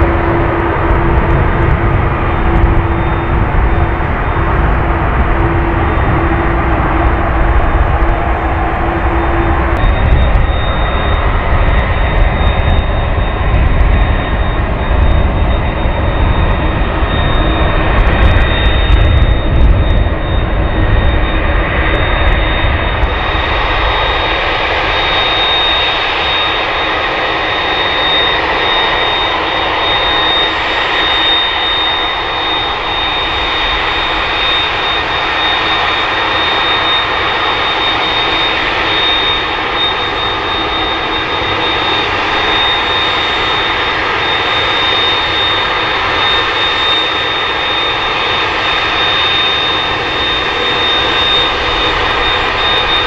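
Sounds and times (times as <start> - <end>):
high engine whine: 0.0 - 53.0
jet engines running: 0.0 - 53.0.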